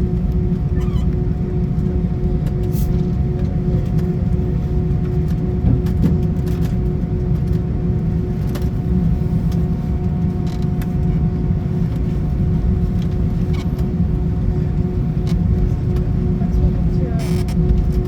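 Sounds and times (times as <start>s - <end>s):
aircraft cabin rumble: 0.0s - 18.0s
constant hum: 0.0s - 18.0s.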